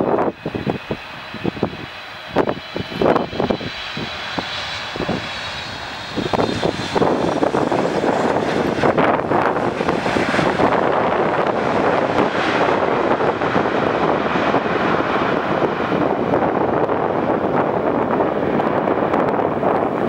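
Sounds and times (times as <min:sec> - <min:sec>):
jet engines whining: 0:00.0 - 0:20.0
wind buffeting microphone: 0:00.0 - 0:20.0.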